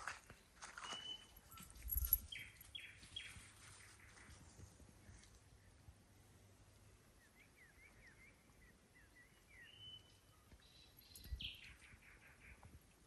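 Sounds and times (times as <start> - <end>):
songbird chirps and calls: 0.8 - 5.8, 7.0 - 13.0.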